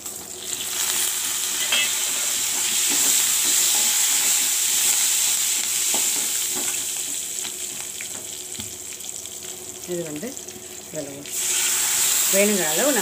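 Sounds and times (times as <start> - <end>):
chillies sizzling in hot oil: 0.0 - 13.0.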